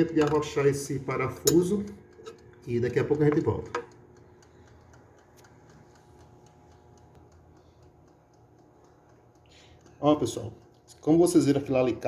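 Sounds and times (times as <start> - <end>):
light ticks: 1.4 - 11.7.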